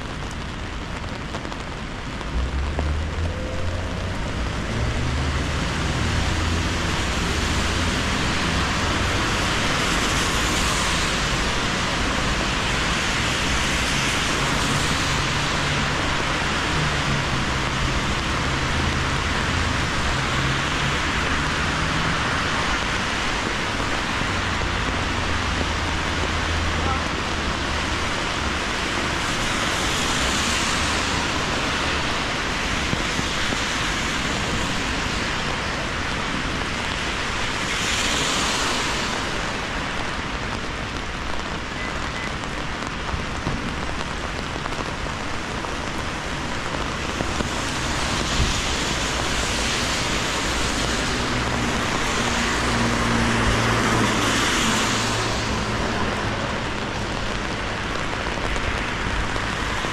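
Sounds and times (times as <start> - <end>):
rain on an umbrella: 0.0 - 59.9
rain on wet pavement: 0.0 - 59.9
tyres hissing on wet road: 0.0 - 59.9.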